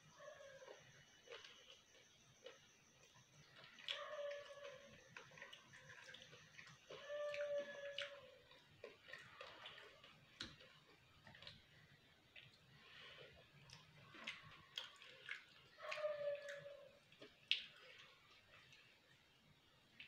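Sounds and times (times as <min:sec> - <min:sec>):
chewing with mouth clicks: 0:00.3 - 0:19.0.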